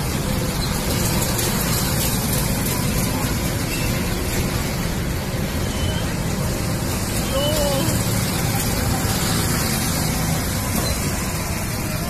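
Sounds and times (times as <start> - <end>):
go-karts running: 0.0 - 12.0.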